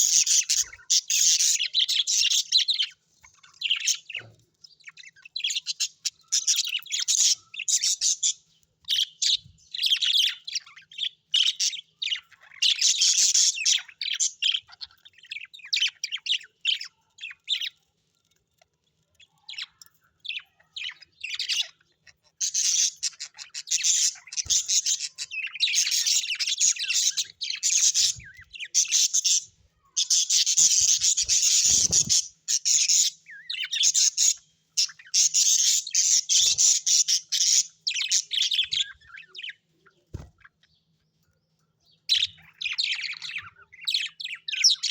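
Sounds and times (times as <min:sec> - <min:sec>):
parrots chattering and chirping: 0:00.0 - 0:41.1, 0:41.9 - 0:44.9.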